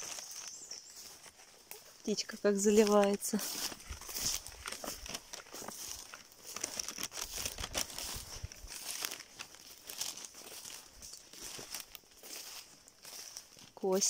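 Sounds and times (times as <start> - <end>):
footsteps through fallen leaves: 0.0 - 14.0.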